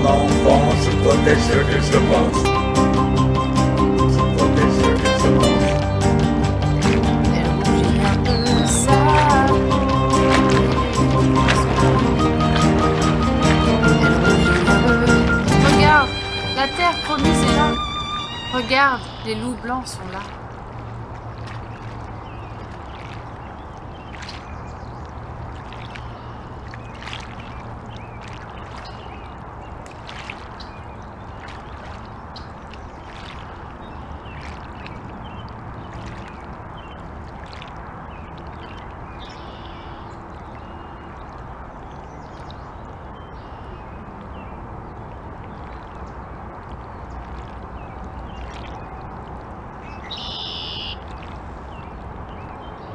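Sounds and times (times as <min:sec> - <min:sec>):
waves lapping at bank: 0:00.0 - 0:52.9.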